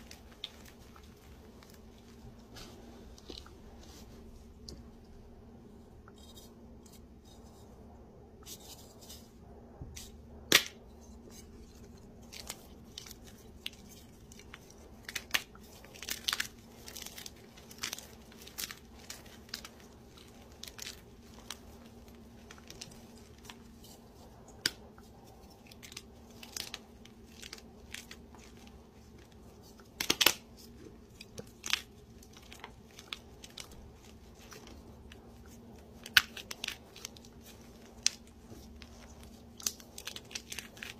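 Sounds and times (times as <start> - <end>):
hands crumbling chalk: 0.0 - 5.0, 10.0 - 40.9
faint steady hum: 0.0 - 40.9.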